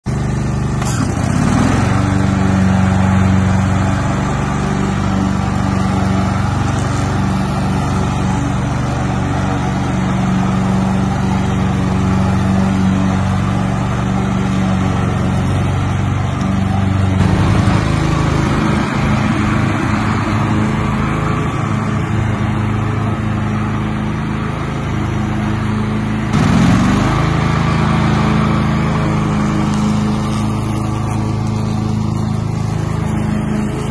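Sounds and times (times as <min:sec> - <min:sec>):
lawn tractor engine running: 0:00.0 - 0:33.9.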